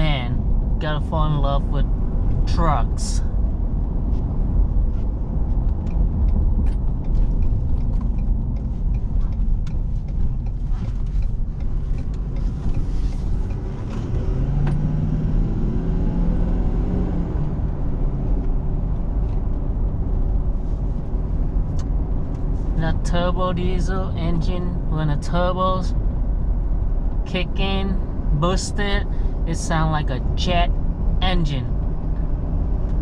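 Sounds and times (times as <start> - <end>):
diesel engine rumbling: 0.0 - 33.0
engine drone: 0.0 - 33.0.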